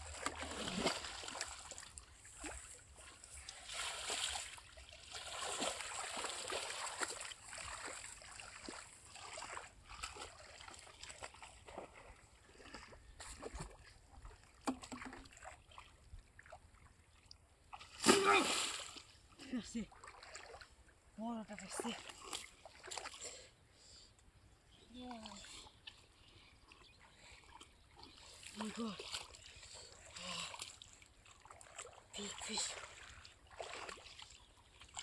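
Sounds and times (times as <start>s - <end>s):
shallow water splashing: 0.0s - 20.8s, 26.7s - 35.0s.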